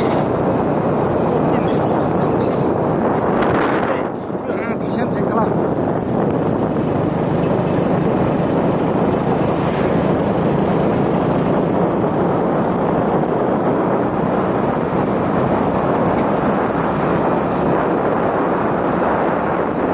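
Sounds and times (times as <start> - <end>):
low engine and road noise: 0.0 - 19.9
wind on microphone: 0.0 - 19.9.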